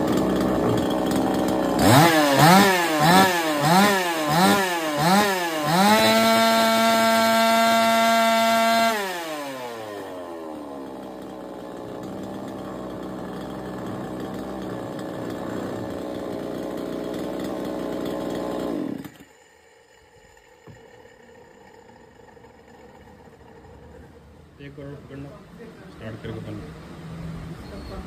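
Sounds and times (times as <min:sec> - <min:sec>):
engine shutting off: 0:00.0 - 0:25.4
chainsaw engine idling: 0:00.0 - 0:26.7.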